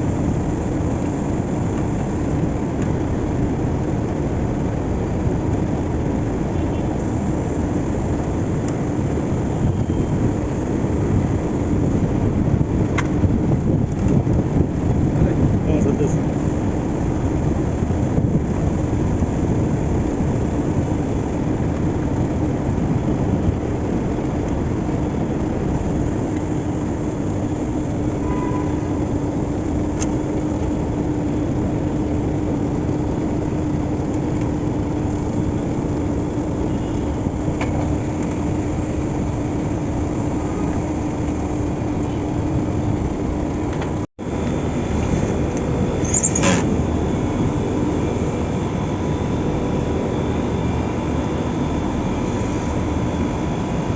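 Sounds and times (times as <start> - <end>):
machine running hum: 0.0 - 53.9.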